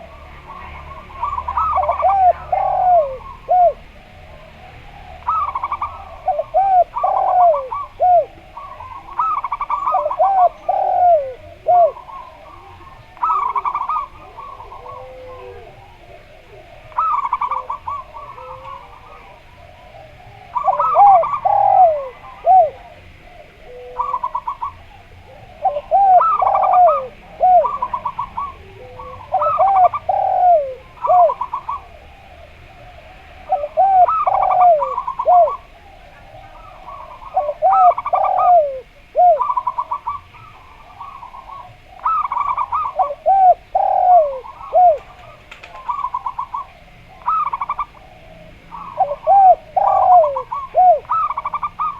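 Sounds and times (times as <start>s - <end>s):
dove cooing: 0.0s - 51.9s
dove stuttering trills: 0.0s - 51.9s.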